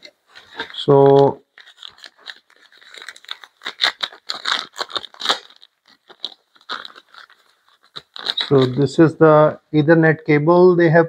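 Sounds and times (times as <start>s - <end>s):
packaging crinkling and crackling: 0.0s - 9.5s.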